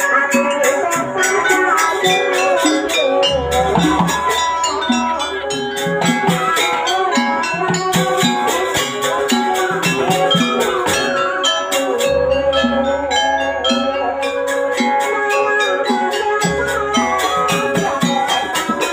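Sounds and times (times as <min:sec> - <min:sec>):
drum beats: 0:00.0 - 0:18.9
held bending melody line: 0:00.0 - 0:18.9
metal percussion strikes: 0:00.0 - 0:18.9.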